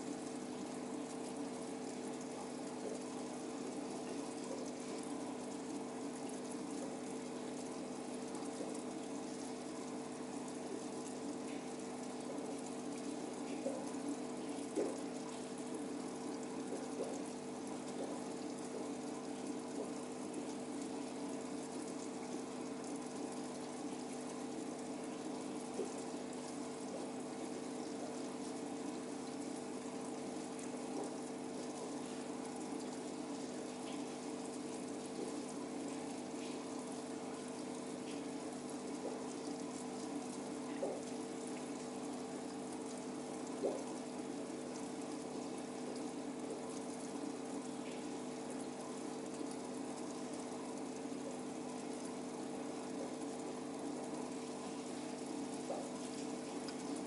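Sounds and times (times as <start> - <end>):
aquarium pump humming: 0.0 - 57.0.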